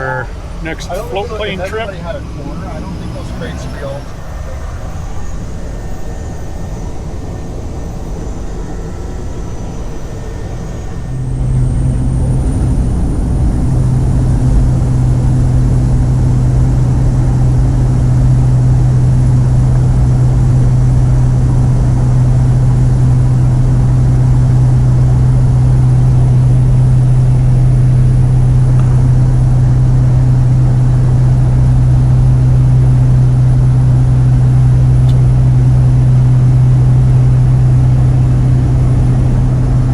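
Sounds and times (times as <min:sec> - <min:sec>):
faint high whine: 0:00.0 - 0:39.9
propeller plane engine drone: 0:00.0 - 0:39.9.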